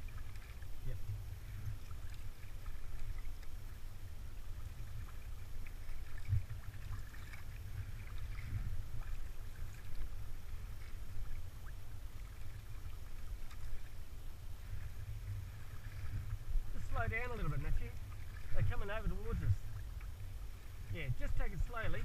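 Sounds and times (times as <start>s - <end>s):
paddle splashing water: 0.0s - 22.0s.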